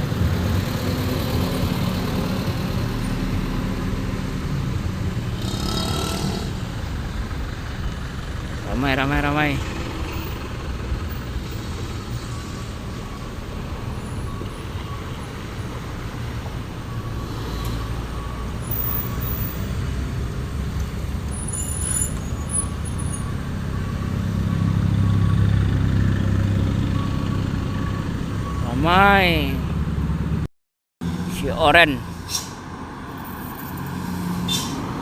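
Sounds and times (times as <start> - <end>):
diesel truck engines rumbling: 0.0 - 35.0.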